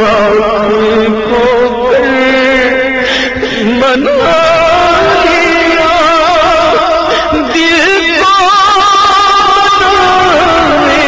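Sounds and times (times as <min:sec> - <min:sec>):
man singing melismatic notes: 0:00.0 - 0:11.0.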